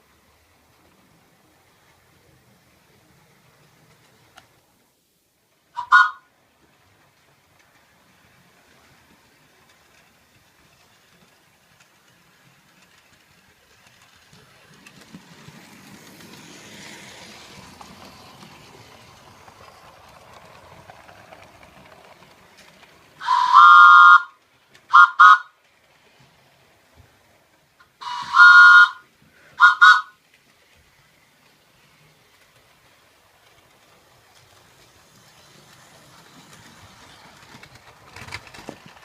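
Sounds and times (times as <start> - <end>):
faint train rumble: 0.0 - 39.0.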